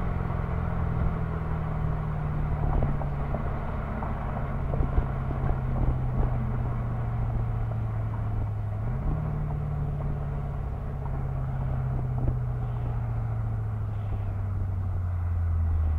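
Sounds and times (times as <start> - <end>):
car exhaust engine note: 0.0 - 15.9
tyre and road noise: 0.0 - 15.9.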